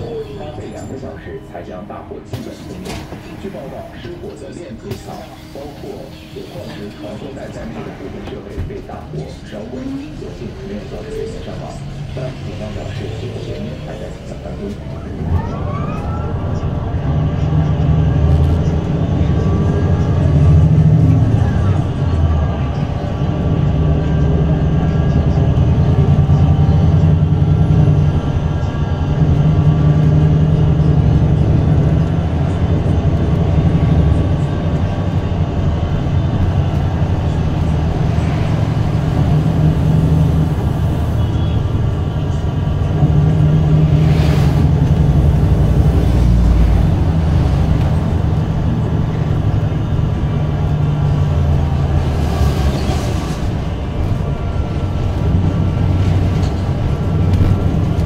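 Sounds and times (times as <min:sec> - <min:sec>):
bus diesel engine drone: 0:00.0 - 0:58.0
road and body noise: 0:00.0 - 0:58.0.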